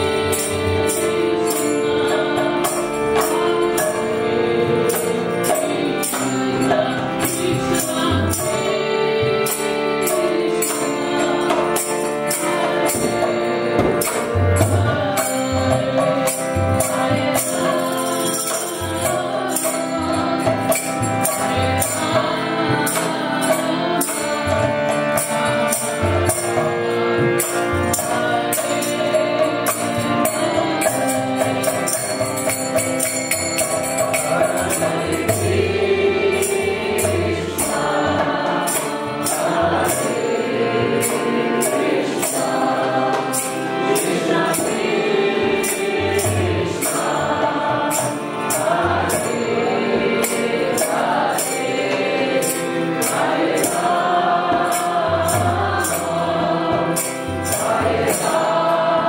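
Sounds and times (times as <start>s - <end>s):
harmonium chords: 0.0s - 59.0s
woman singing devotional chant: 0.0s - 59.0s.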